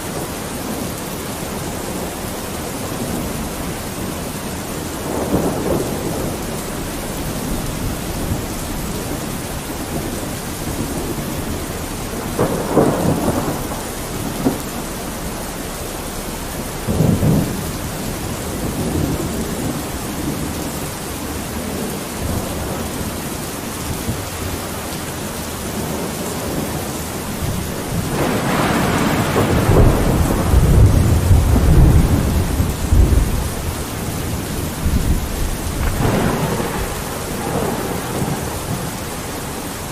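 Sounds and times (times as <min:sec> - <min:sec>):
rolling thunder: 0:00.0 - 0:39.9
steady rain: 0:00.0 - 0:39.9.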